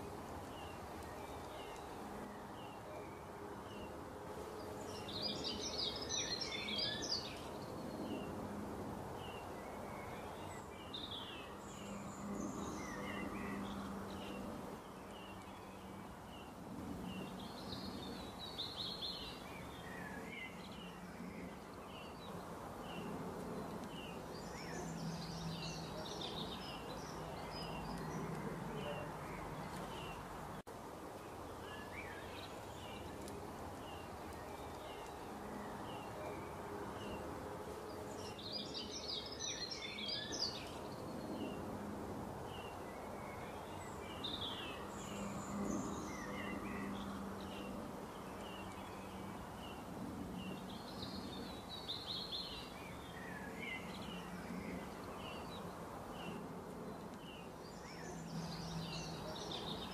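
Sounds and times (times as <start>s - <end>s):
birds chirping and twittering: 0.0s - 59.9s
outdoor background noise: 0.0s - 59.9s.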